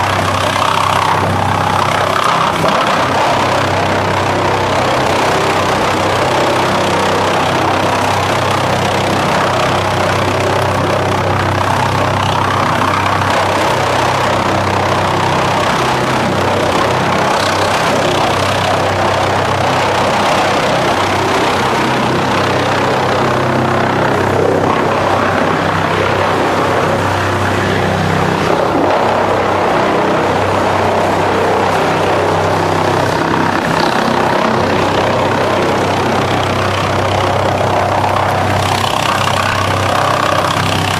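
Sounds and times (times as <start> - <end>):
drum chipper machine drone: 0.0 - 40.9.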